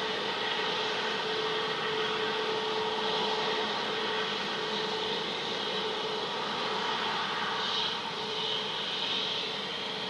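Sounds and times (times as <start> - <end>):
jet engines running: 0.0 - 10.0.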